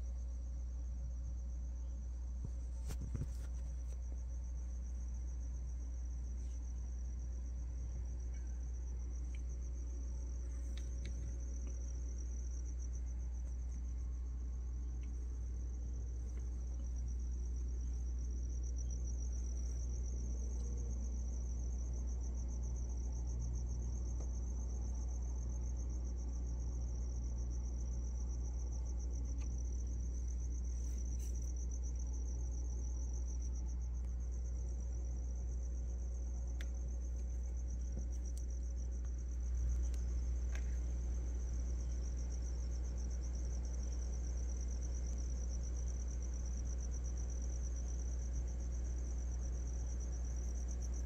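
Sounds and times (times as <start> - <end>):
crickets trilling: 0.0 - 51.0
low steady rumble: 0.0 - 51.0.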